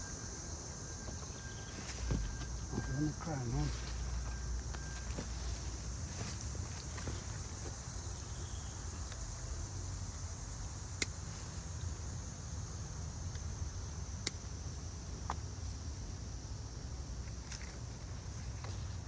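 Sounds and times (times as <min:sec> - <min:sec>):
high insect buzz: 0:00.0 - 0:19.0.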